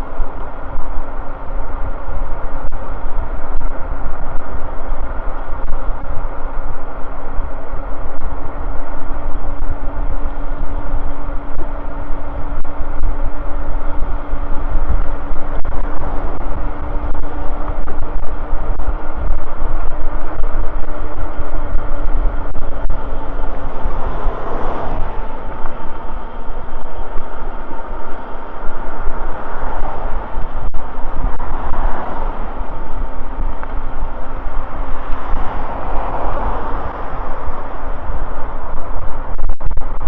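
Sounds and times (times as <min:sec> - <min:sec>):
electric bike motor hum: 0:00.0 - 0:40.0
wind buffeting microphone: 0:00.0 - 0:40.0.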